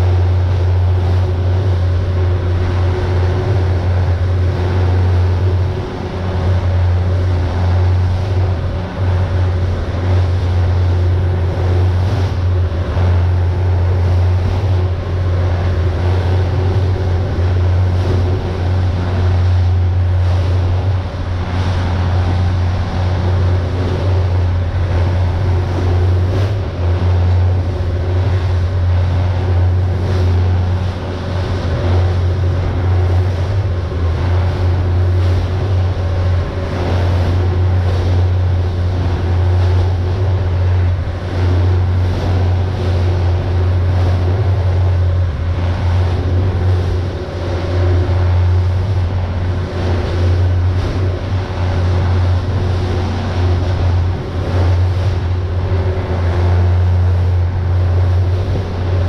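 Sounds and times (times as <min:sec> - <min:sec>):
boat engines droning: 0:00.0 - 0:59.0
water rushing past hull: 0:00.0 - 0:59.0.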